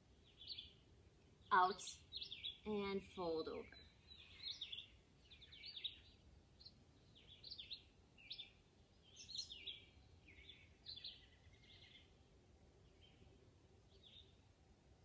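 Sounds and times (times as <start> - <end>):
faint birdsong: 0.0 - 15.0
quiet outdoor background noise: 0.0 - 15.0.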